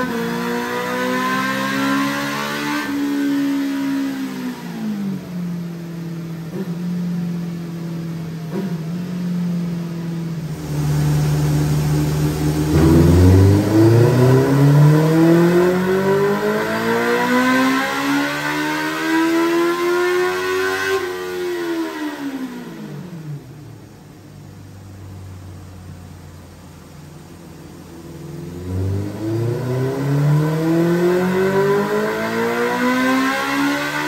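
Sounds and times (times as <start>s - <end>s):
motorcycle engine revving: 0.0s - 7.5s, 8.3s - 24.1s, 28.0s - 34.0s.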